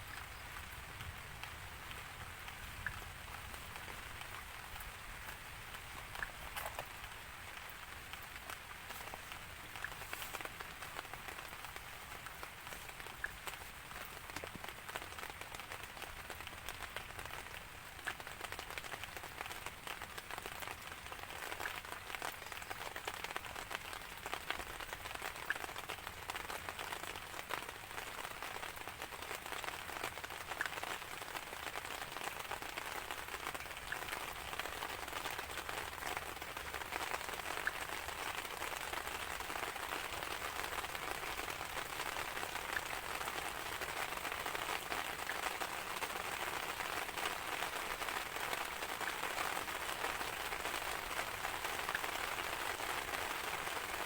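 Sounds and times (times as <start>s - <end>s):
raindrops ticking: 0.0s - 54.0s
steady rain falling: 0.0s - 54.0s.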